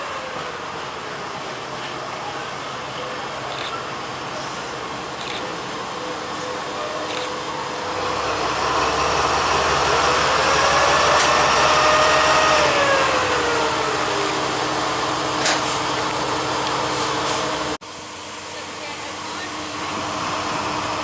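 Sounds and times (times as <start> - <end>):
train passing: 0.0 - 21.0.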